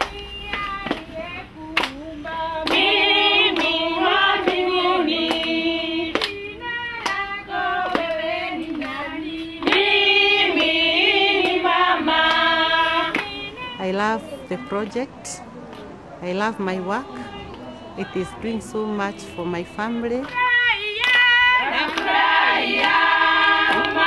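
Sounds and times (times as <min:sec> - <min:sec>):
women singing together: 0:00.0 - 0:15.4, 0:16.2 - 0:24.0.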